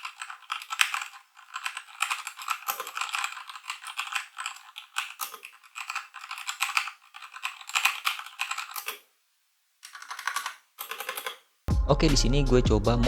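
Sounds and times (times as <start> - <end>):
mechanical keyboard typing: 0.0 - 9.0, 9.8 - 11.4.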